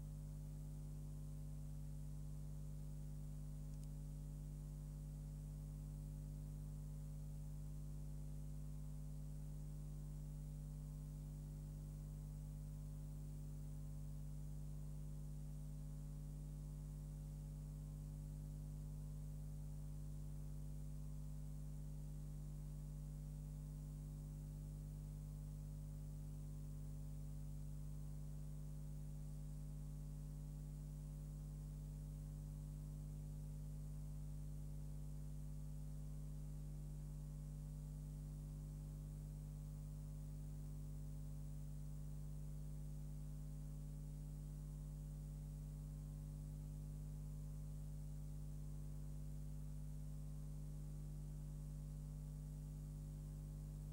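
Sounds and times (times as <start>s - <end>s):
electrical mains hum with hiss: 0.0s - 53.9s.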